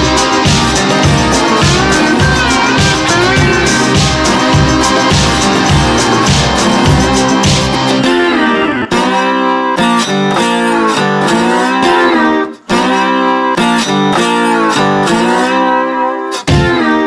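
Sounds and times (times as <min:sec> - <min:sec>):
plucked and slide guitar music: 0:00.0 - 0:17.0.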